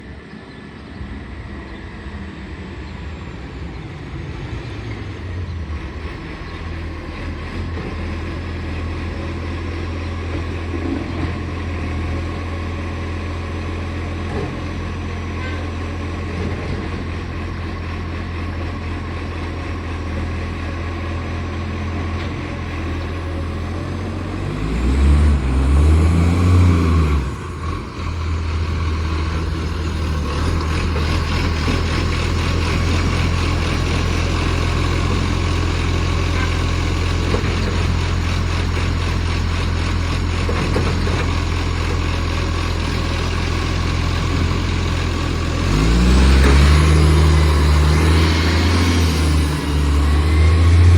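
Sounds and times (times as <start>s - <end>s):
diesel engine with leaking exhaust: 0.0s - 50.9s.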